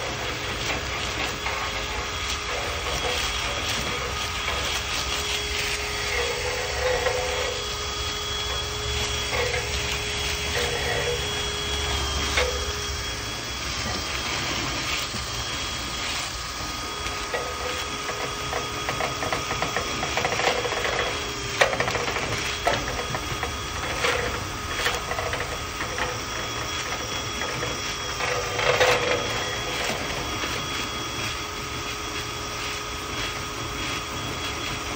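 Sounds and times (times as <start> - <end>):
drill motor whine: 0.0 - 34.9.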